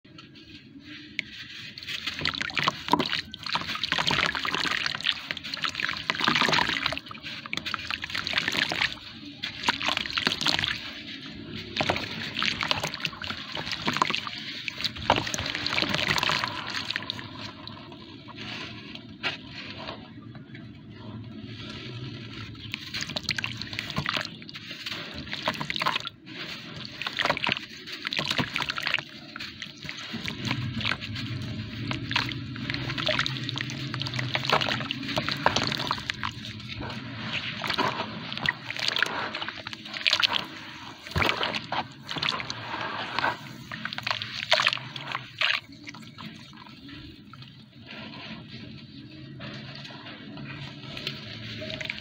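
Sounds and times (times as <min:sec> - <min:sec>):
gritty crackles: 0:00.1 - 0:52.0
wet sand sloshing: 0:00.8 - 0:20.1, 0:20.9 - 0:52.0.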